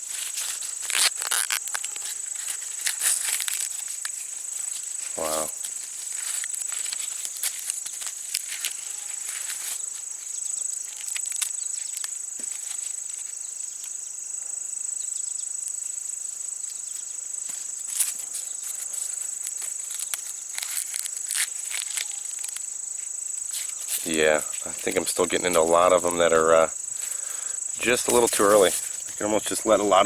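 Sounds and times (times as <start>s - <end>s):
dry corn husks rustling: 0.0s - 14.0s, 15.6s - 30.0s
insects chorus: 0.0s - 30.0s.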